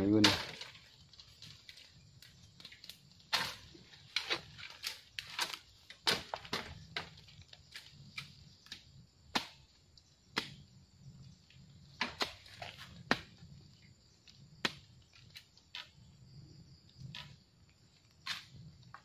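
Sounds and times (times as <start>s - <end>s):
cracks and knocks of dry bamboo: 0.0s - 10.7s, 11.4s - 16.1s, 17.1s - 19.0s.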